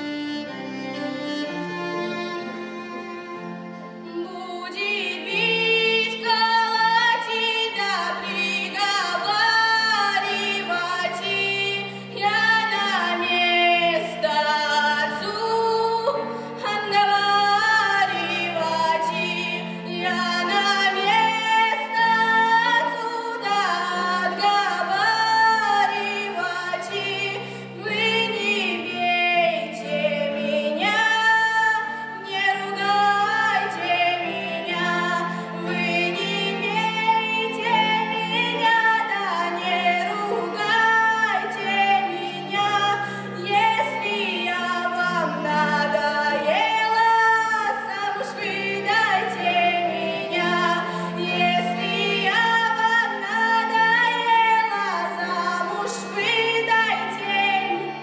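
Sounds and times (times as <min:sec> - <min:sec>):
instrumental accompaniment: 0:00.0 - 0:58.0
woman singing with vibrato: 0:04.1 - 0:58.0.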